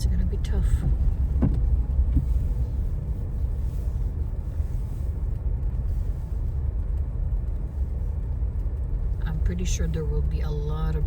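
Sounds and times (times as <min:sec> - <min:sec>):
car driving on snow: 0:00.0 - 0:11.0.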